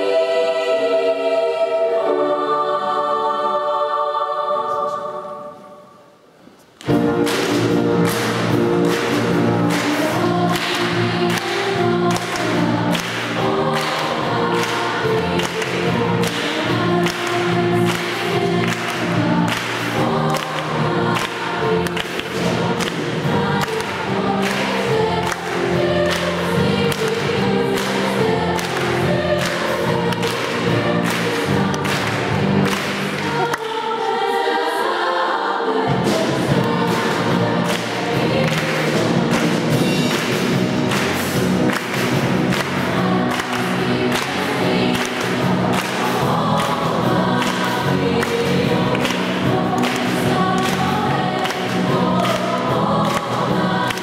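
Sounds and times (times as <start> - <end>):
girls' choir singing: 0.0 - 6.2, 6.8 - 54.0.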